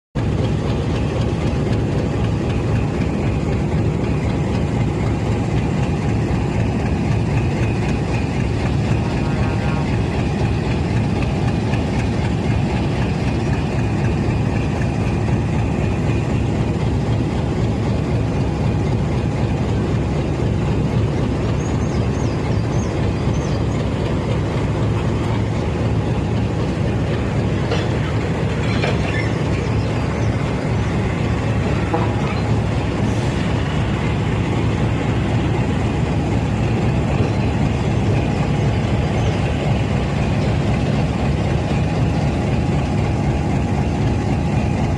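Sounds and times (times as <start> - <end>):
locomotive diesel engine humming: 0.2 - 44.9.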